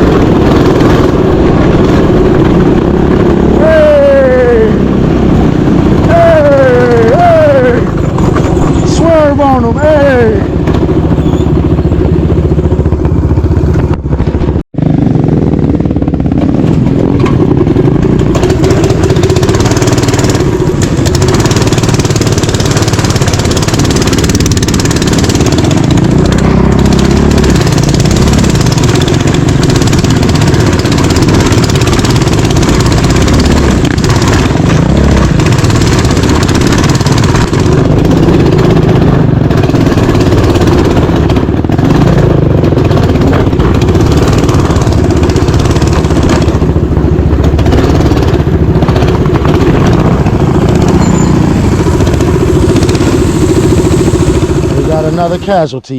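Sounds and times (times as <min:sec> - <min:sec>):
mini bike engine revving: 0:00.0 - 0:55.6
rushing noise: 0:00.0 - 0:55.9.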